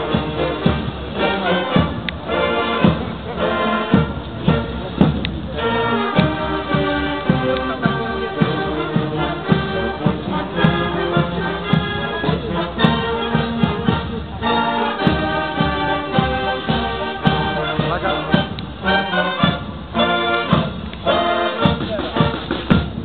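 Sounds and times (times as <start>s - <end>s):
marching brass band playing: 0.0s - 23.0s
steady drum beat: 0.0s - 23.0s.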